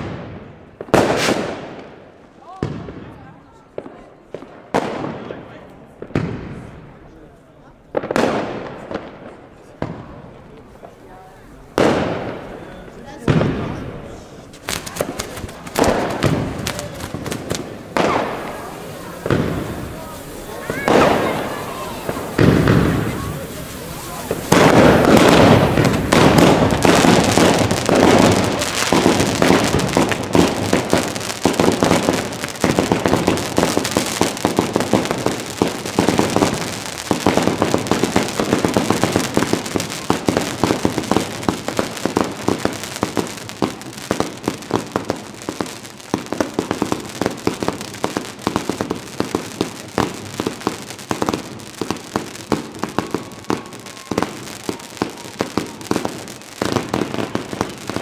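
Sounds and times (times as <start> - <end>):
fireworks popping and crackling: 0.0 - 58.0.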